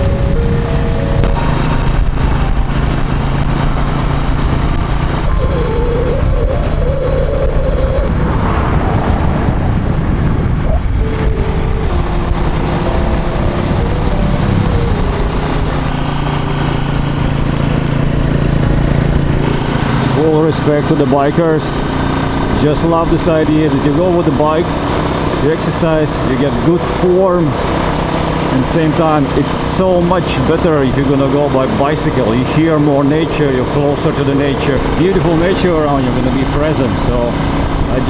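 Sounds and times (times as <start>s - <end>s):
vehicle engine and road rumble: 0.0s - 38.0s.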